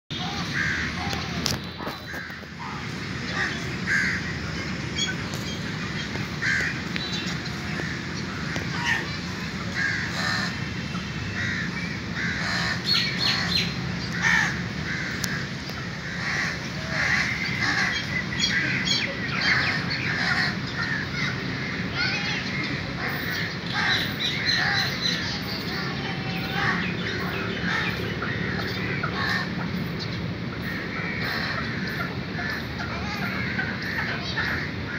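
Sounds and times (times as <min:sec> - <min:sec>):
birds calling: 0:00.1 - 0:34.9.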